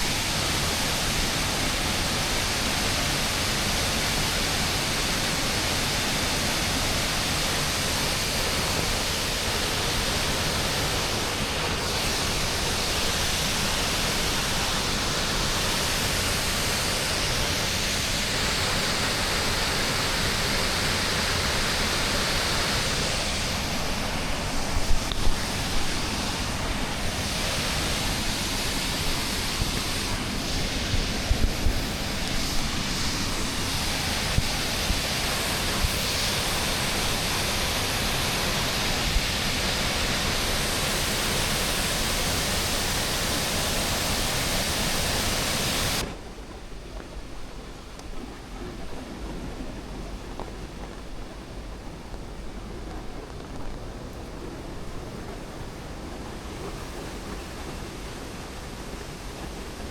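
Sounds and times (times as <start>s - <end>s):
waterfall rushing: 0.0s - 46.2s, 54.4s - 59.9s.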